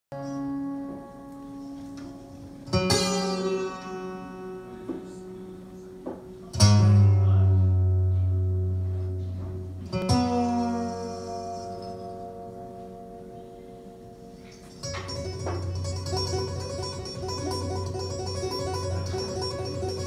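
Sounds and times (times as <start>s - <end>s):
acoustic guitar chords: 0.1s - 20.0s.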